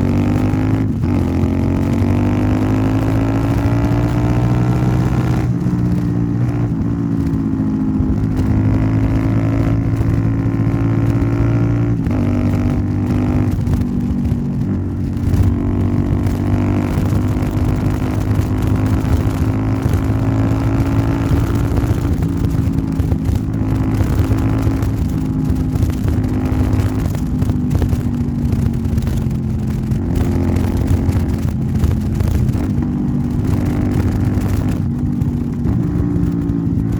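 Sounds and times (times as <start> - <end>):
motorcycle engine while riding: 0.0 - 36.9.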